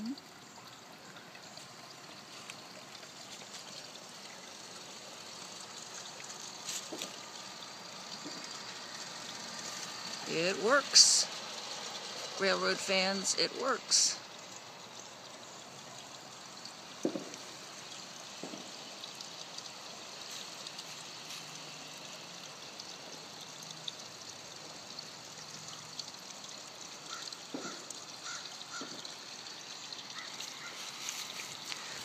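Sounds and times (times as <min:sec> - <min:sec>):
pond water trickling: 0:00.0 - 0:32.0.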